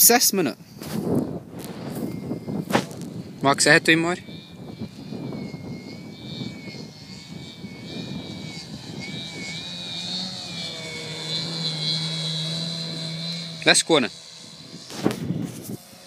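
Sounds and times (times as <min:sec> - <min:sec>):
model airplane motor buzzing: 0:00.8 - 0:16.0.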